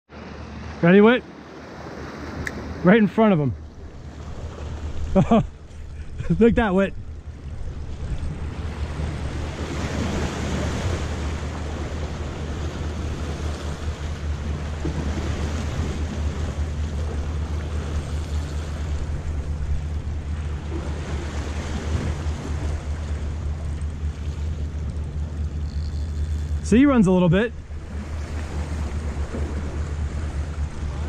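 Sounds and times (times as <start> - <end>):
low wind rumble on microphone: 3.6 - 31.0.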